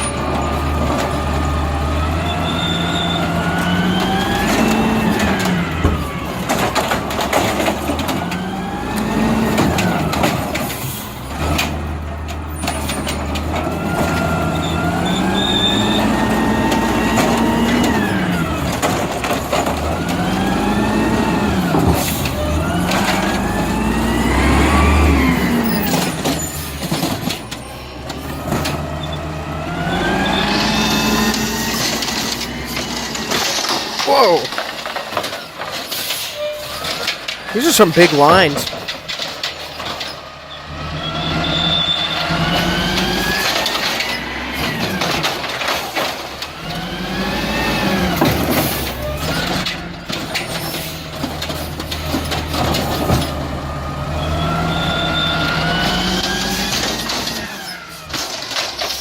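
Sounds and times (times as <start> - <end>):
garbage truck engine revving: 0.0 - 59.0.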